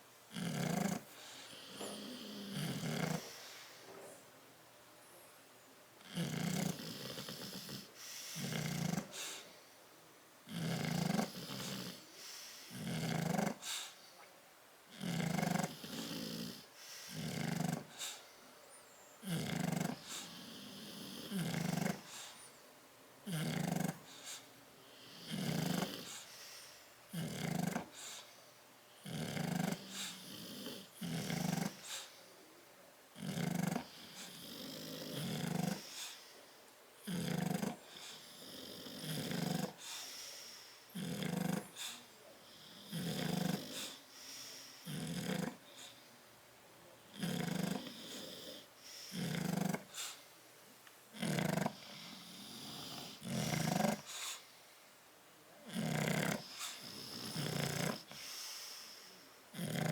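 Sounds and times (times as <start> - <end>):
dog snoring: 0.3 - 3.8, 6.0 - 9.5, 10.5 - 14.0, 14.9 - 18.3, 19.2 - 22.5, 23.2 - 28.3, 29.0 - 32.2, 33.1 - 36.3, 37.0 - 46.0, 47.1 - 50.2, 51.1 - 54.5, 55.6 - 59.9.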